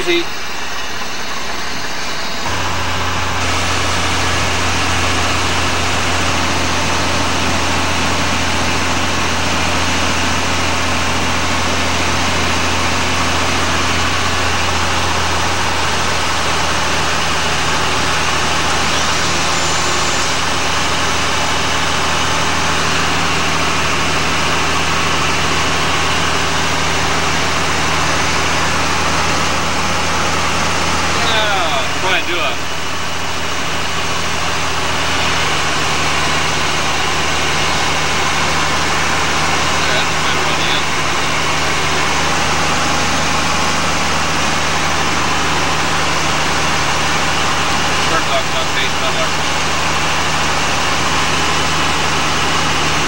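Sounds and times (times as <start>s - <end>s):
aircraft engine drone: 0.0s - 53.0s.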